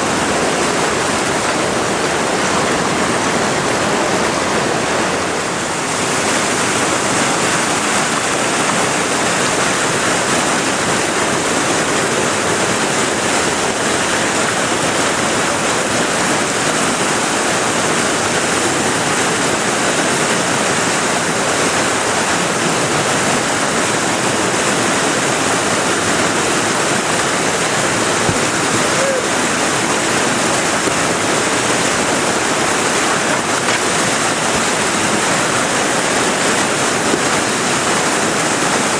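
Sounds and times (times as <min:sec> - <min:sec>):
whitewater rapids rushing: 0:00.0 - 0:38.9.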